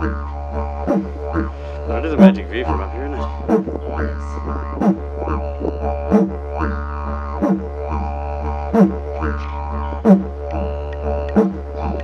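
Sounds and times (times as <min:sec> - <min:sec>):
didgeridoo drone: 0:00.0 - 0:12.0.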